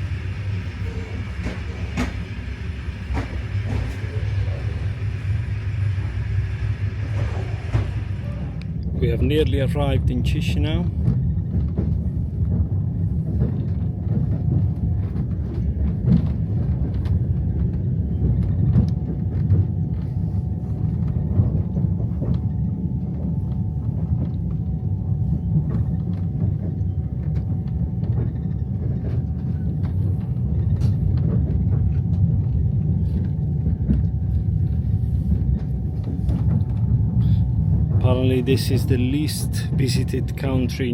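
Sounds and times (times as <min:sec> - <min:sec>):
train carriage rumbling on rails: 0:00.0 - 0:40.9.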